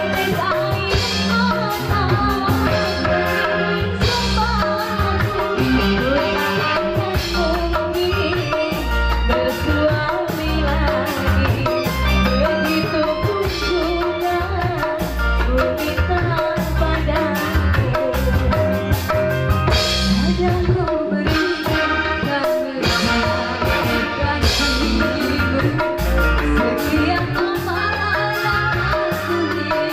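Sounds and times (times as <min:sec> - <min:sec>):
drum and hand percussion beat: 0:00.0 - 0:29.9
woman singing: 0:00.0 - 0:29.9.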